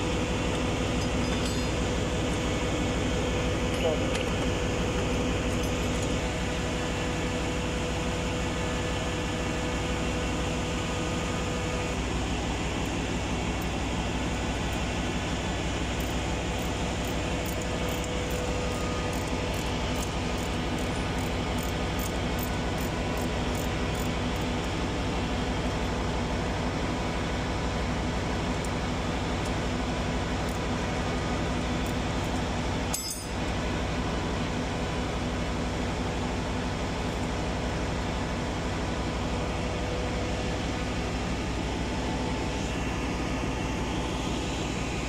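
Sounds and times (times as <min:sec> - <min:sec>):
engine-room machinery drone: 0:00.0 - 0:45.0.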